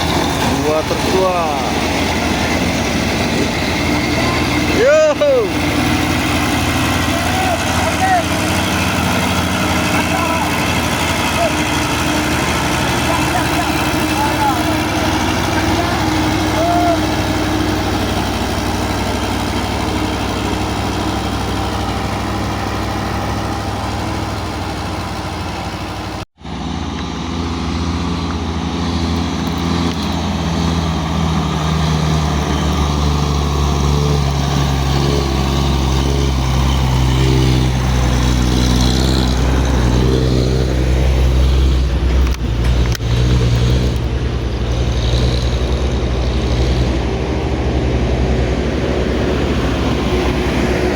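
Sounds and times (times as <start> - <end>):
truck diesel engine under load: 0.0 - 50.9.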